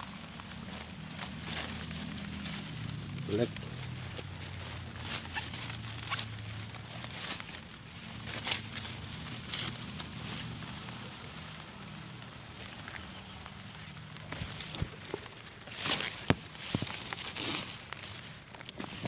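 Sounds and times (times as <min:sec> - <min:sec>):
leaves and grass rustling: 0:00.0 - 0:19.0.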